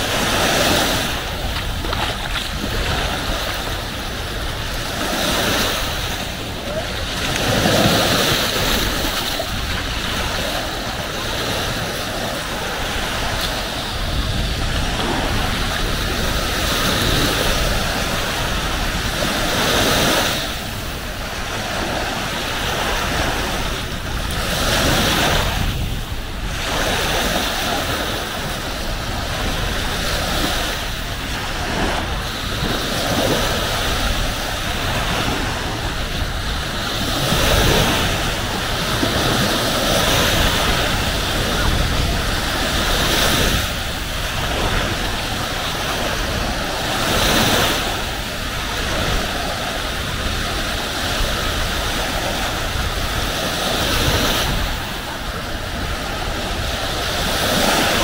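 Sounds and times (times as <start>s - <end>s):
sea waves washing onto beach: 0.0s - 58.0s
wind on microphone: 0.0s - 58.0s.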